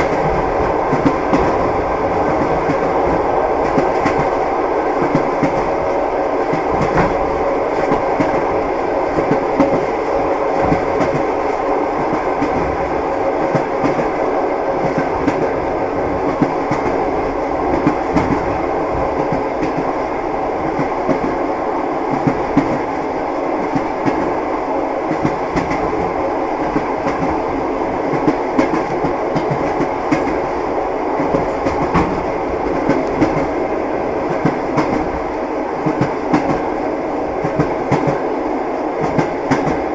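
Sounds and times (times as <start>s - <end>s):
train carriage rumble: 0.0s - 39.9s.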